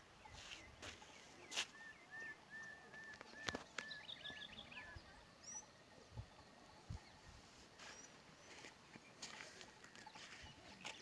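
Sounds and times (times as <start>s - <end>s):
faint songbird calling: 0.0s - 11.0s.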